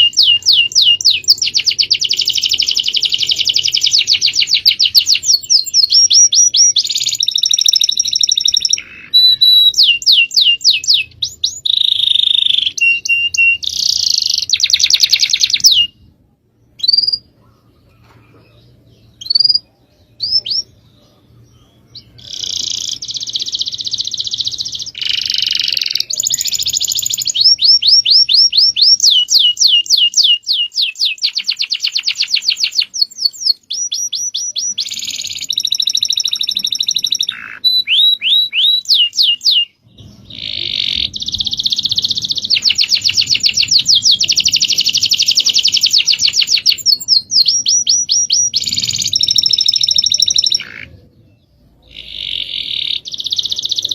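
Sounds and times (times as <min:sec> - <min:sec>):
songbird song with buzzy trills: 0:00.0 - 0:53.9.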